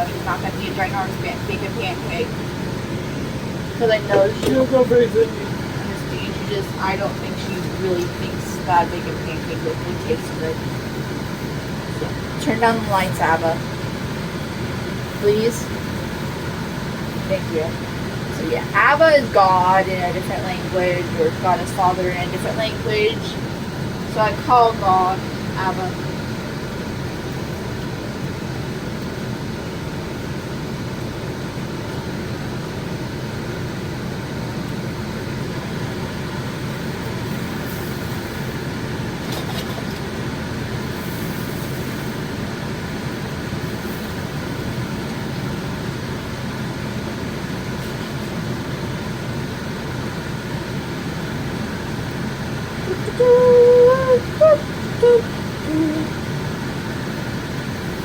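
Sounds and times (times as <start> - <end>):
stove noise: 0.0 - 31.2, 35.4 - 51.8.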